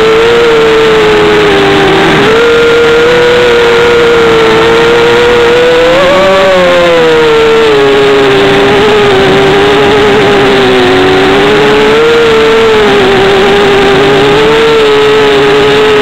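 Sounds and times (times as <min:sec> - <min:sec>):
loud rushing noise: 0:00.0 - 0:16.0
quadcopter motors whining: 0:00.0 - 0:16.0.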